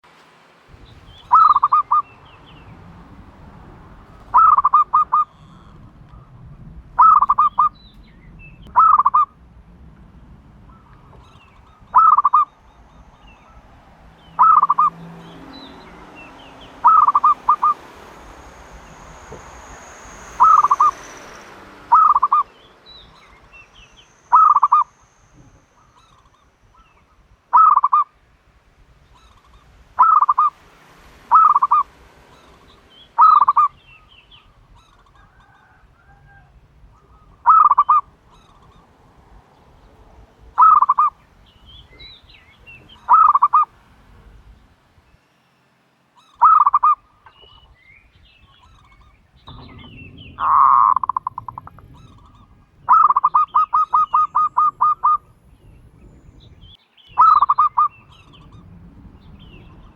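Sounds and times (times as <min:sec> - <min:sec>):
turtle dove cooing: 0:00.9 - 0:08.0, 0:08.6 - 0:09.4, 0:10.6 - 0:26.9, 0:27.5 - 0:28.1, 0:29.1 - 0:39.1, 0:39.9 - 0:41.2, 0:41.8 - 0:43.7, 0:46.2 - 0:47.6, 0:48.6 - 0:56.0, 0:57.1 - 0:59.9.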